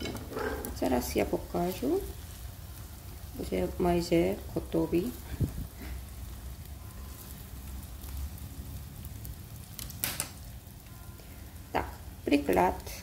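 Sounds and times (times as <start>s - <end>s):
tofu sizzling in oil: 0.0s - 13.0s.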